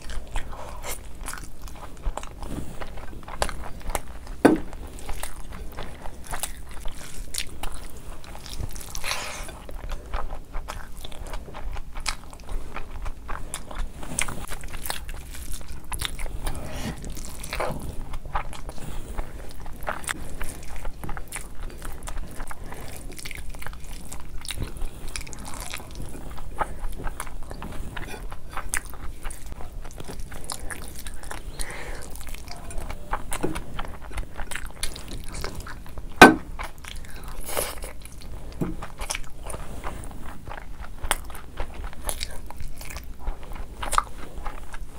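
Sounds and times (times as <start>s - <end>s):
close chewing and mouth smacks: 0.0s - 44.9s.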